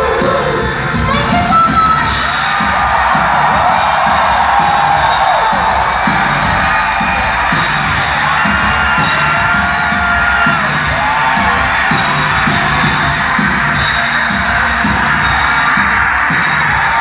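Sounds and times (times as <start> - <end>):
crowd yelling and whooping: 0.0 - 17.0
drum beat: 0.0 - 17.0
live pop band music: 0.0 - 17.0.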